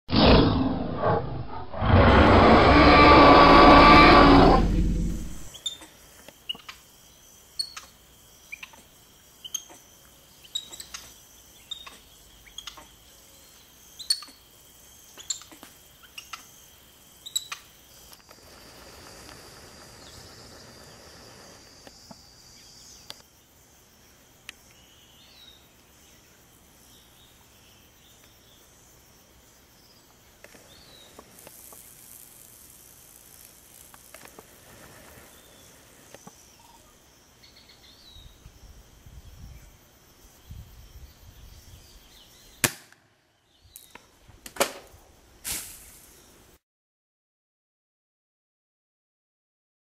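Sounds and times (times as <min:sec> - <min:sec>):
steady high hiss: 0:02.2 - 0:46.6.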